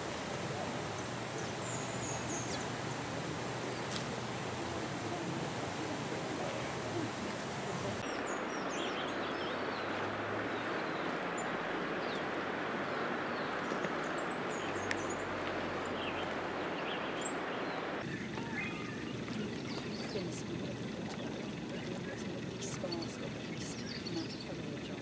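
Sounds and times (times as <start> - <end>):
steady rushing background noise: 0.0 - 25.0.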